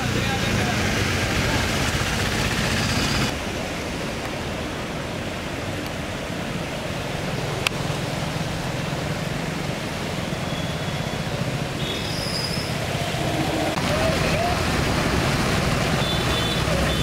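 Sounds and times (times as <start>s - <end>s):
engine rumble: 0.0s - 17.0s
water swishing under cars: 0.0s - 17.0s.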